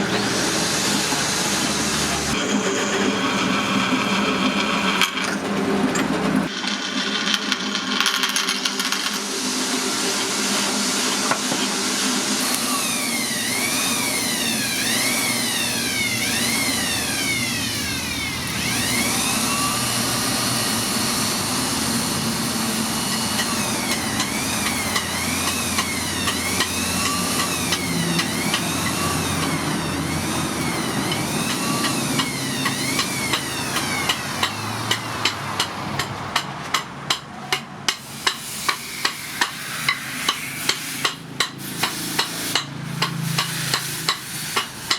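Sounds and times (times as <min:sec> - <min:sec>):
power grinder whining on steel: 0:00.0 - 0:36.4, 0:37.9 - 0:44.9.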